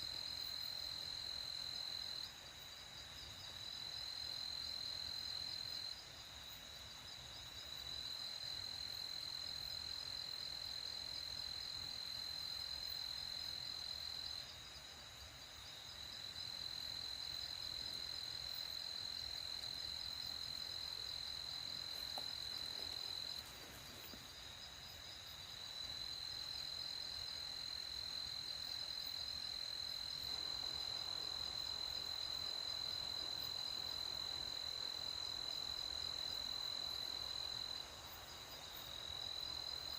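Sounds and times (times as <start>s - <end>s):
soft hiss: 0.0s - 35.6s
crickets trilling: 0.1s - 39.9s.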